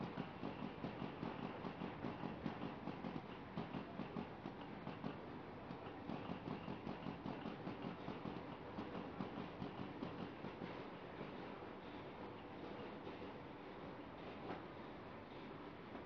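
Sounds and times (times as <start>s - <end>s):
machine rhythmic clatter: 0.0s - 16.0s.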